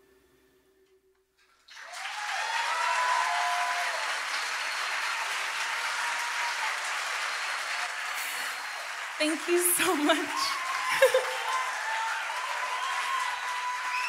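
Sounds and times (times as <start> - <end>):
audience applauding: 1.5 - 14.0.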